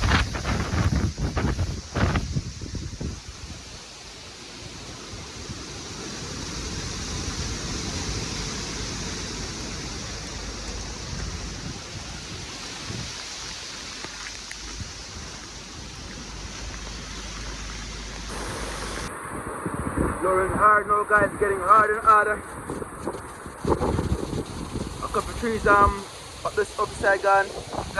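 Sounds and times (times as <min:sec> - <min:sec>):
hurricane wind blowing hard: 0:00.0 - 0:27.9
wind buffeting microphone: 0:00.0 - 0:27.9.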